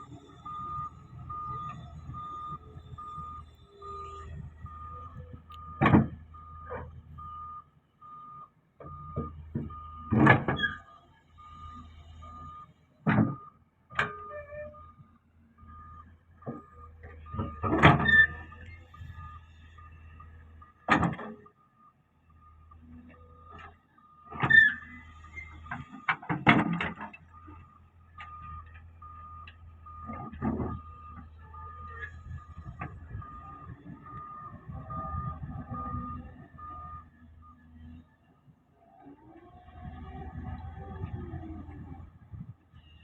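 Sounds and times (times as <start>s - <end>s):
reversing alarm beeping: 0.0s - 15.0s, 15.6s - 26.2s, 27.2s - 38.0s.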